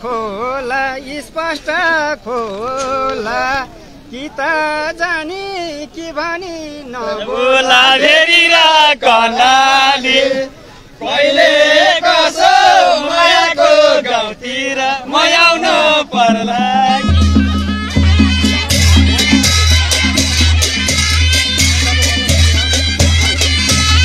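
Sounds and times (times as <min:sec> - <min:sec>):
men singing unaccompanied: 0:00.0 - 0:20.7.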